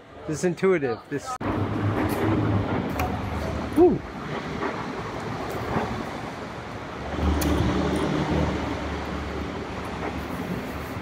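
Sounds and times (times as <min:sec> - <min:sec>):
city street traffic: 0:00.0 - 0:11.0
vehicle engine rumble: 0:01.4 - 0:11.0.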